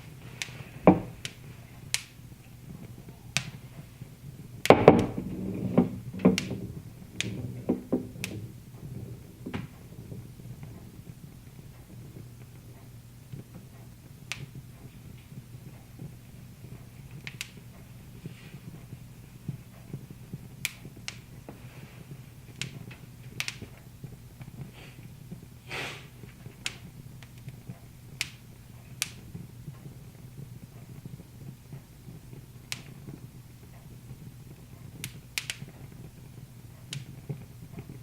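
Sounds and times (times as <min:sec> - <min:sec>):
steady low hum: 0:00.0 - 0:38.0
wood fire crackling: 0:00.0 - 0:38.0.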